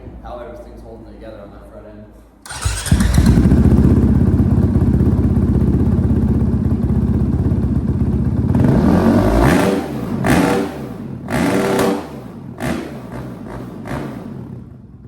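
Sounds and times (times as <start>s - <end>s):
dirt bike engine idling and revving: 2.5s - 15.0s.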